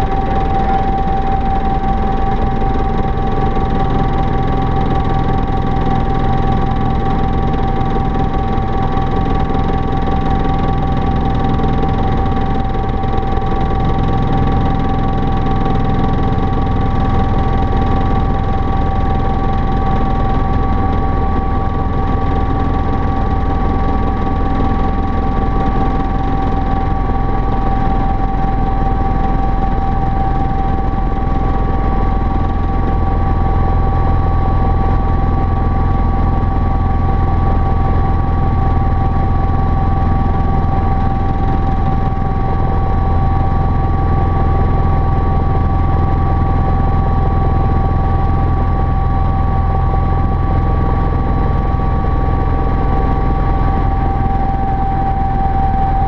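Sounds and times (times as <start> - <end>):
helicopter low drone: 0.0 - 56.0
high whine: 0.0 - 56.0.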